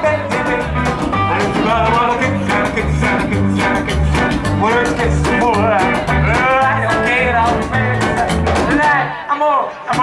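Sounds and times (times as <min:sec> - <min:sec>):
upright bass walking: 0:00.0 - 0:09.1
rockabilly band playing: 0:00.0 - 0:09.2.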